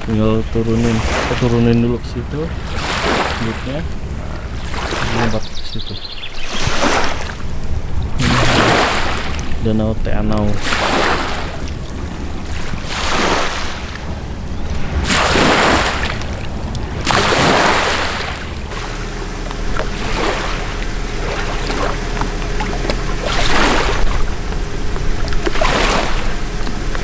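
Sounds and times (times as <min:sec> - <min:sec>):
small waves washing ashore: 0:00.0 - 0:27.0
steady low rumble: 0:00.0 - 0:27.0.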